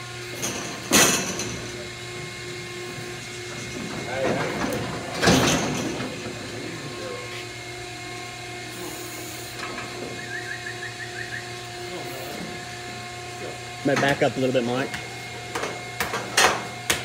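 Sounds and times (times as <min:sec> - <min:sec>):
hydraulic unit humming: 0:00.0 - 0:17.0.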